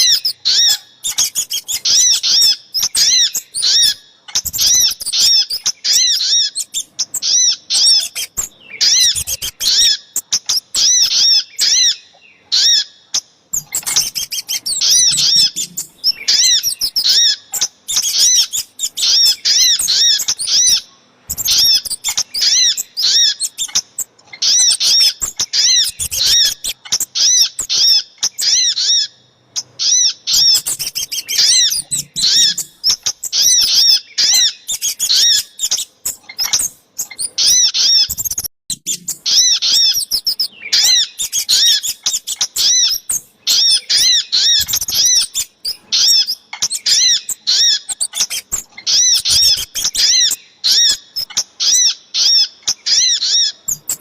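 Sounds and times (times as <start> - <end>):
songbirds calling sharp notes: 0.0 - 54.0.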